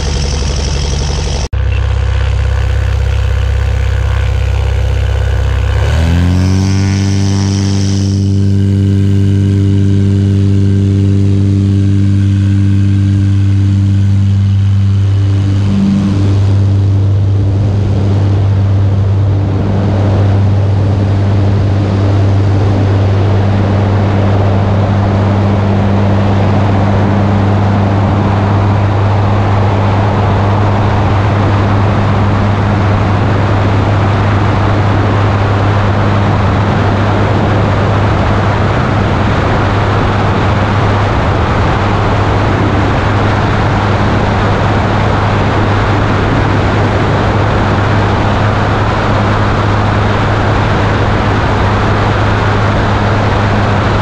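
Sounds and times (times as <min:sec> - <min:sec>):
light aircraft engine droning: 0:00.0 - 0:54.0
rushing wind noise: 0:00.0 - 0:54.0.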